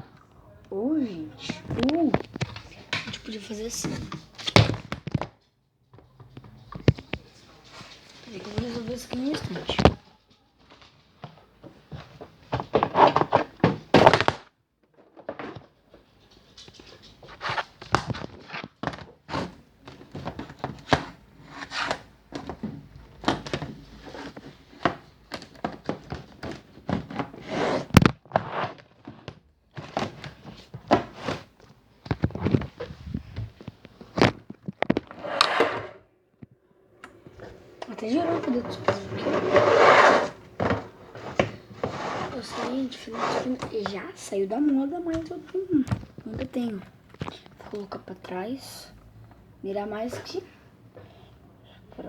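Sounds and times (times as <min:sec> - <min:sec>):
objects clattering on hard surface: 0:01.4 - 0:47.9.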